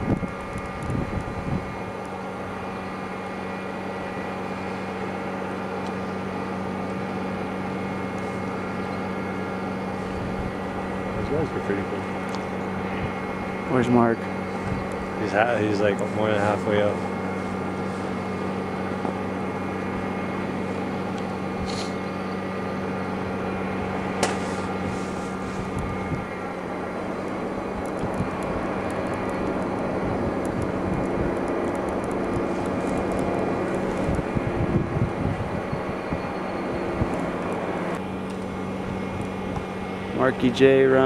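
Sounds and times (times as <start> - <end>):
low rumbling buffets: 0.0 - 41.0
mechanical hum: 0.0 - 41.0.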